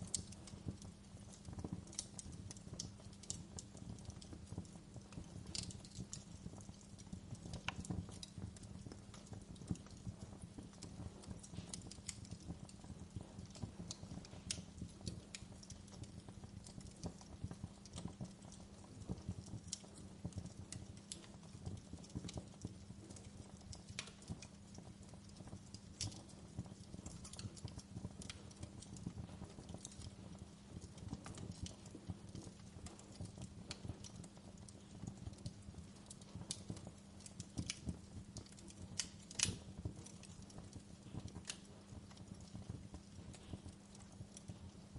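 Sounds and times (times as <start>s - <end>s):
fireplace fire crackling: 0.0s - 44.9s.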